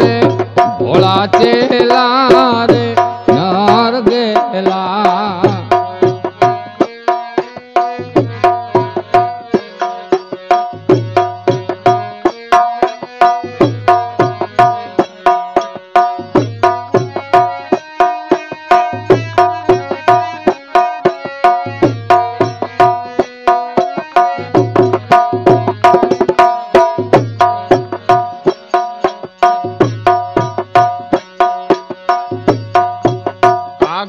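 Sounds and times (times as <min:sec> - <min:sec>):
plucked melody: 0:00.0 - 0:34.0
tabla drum rhythm: 0:00.0 - 0:34.0.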